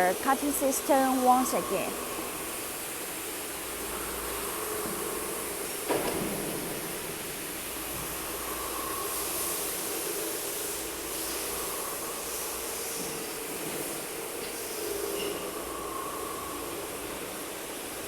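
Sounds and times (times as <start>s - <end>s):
factory machinery hum and hiss: 0.0s - 18.0s.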